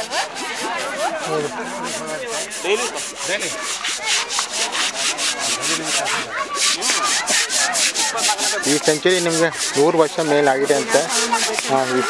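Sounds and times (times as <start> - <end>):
scrubbing wet hide: 0.0 - 12.0.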